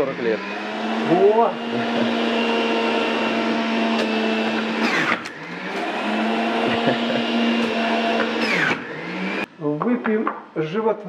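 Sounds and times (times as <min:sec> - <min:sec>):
juicer motor hum: 0:00.0 - 0:09.5.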